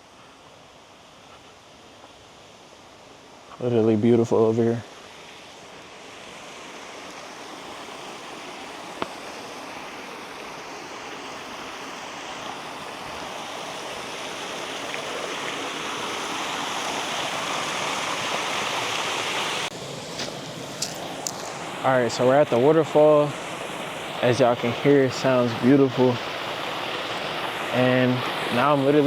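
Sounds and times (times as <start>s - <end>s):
waterfall rushing: 4.9s - 29.0s.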